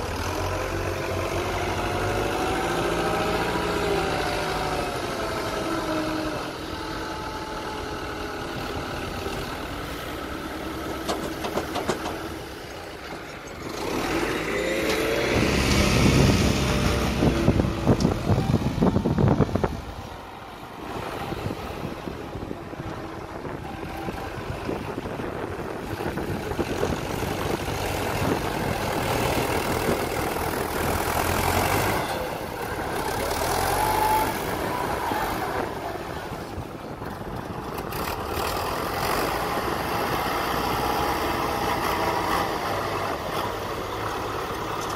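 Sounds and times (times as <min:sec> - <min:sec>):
tractor diesel engine revving: 0:00.0 - 0:44.9.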